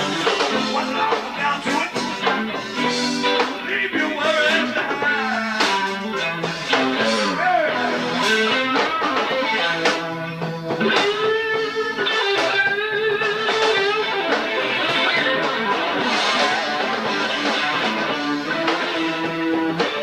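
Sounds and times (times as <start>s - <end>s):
blues band playing: 0.0s - 20.0s
electric guitar lead with bent notes: 0.0s - 20.0s.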